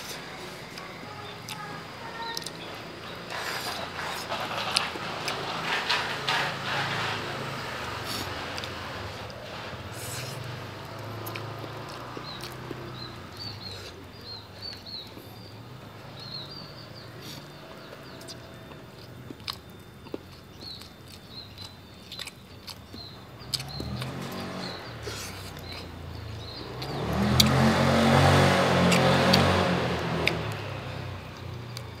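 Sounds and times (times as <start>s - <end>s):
chewing and crunching: 0.0s - 15.3s, 17.2s - 32.0s.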